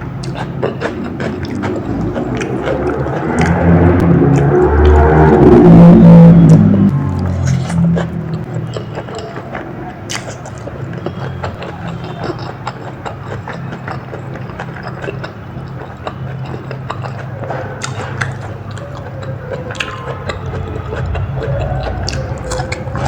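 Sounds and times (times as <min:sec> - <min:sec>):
mouth clicks and smacks: 0:00.0 - 0:05.5, 0:06.3 - 0:23.0
chewing and biting food: 0:00.0 - 0:23.0
steady low hum: 0:00.0 - 0:23.0.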